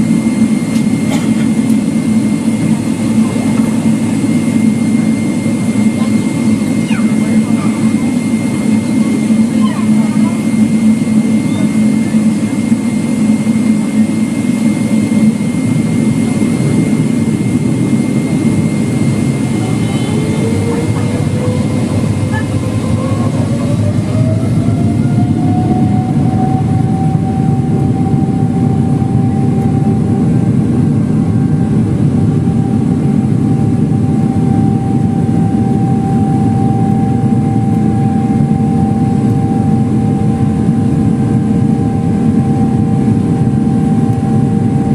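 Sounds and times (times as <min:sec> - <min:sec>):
jet engine rumble from cabin: 0:00.0 - 0:44.9
jet engine whine: 0:00.0 - 0:44.9.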